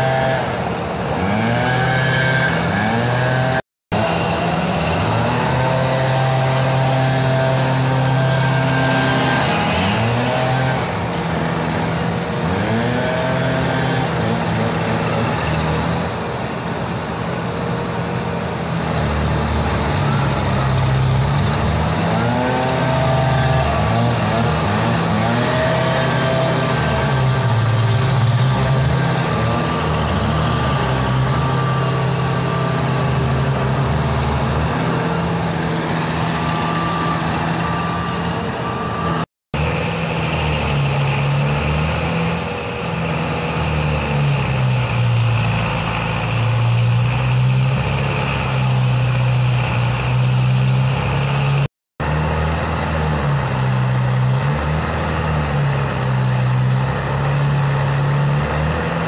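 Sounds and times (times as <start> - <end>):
cutter wheel grinding stump: 0.0 - 16.2, 18.7 - 59.0
stump grinder engine running: 0.0 - 16.6, 18.6 - 59.0.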